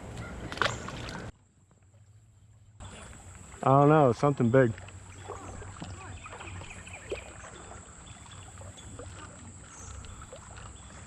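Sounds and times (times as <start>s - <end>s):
moving water: 0.0s - 11.0s.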